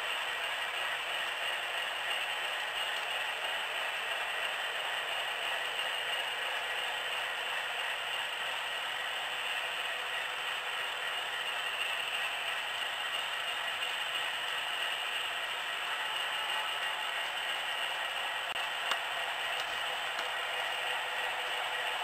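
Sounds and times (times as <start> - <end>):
model train wheels clattering on rails: 0.0 - 22.0.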